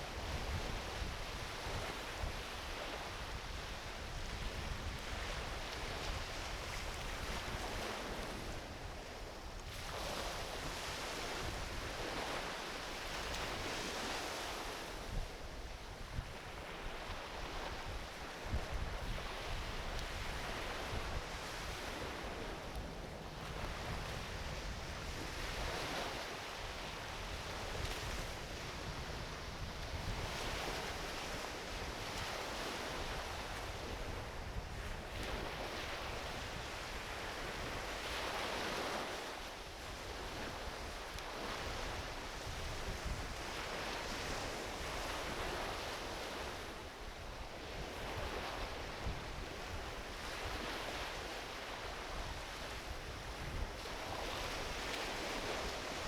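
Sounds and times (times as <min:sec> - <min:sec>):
small ocean waves breaking: 0:00.0 - 0:56.0
wind rumble on microphone: 0:00.0 - 0:56.0.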